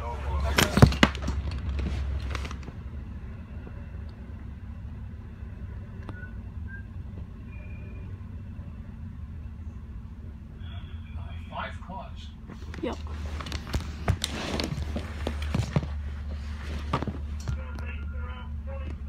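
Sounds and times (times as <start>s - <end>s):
train rolling past: 1.2s - 19.0s.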